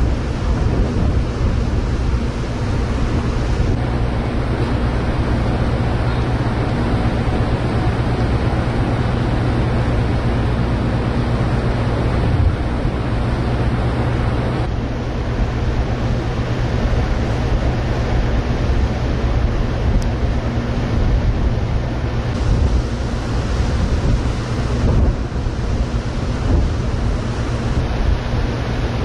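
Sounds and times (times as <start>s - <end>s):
churning wake water: 0.0s - 29.0s
ship engines rumbling: 0.0s - 29.0s
wind buffeting microphone: 0.0s - 29.0s.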